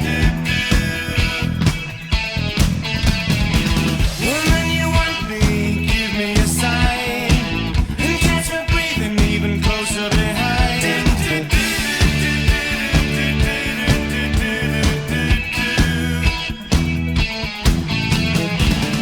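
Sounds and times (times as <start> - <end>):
rock song: 0.0 - 19.0.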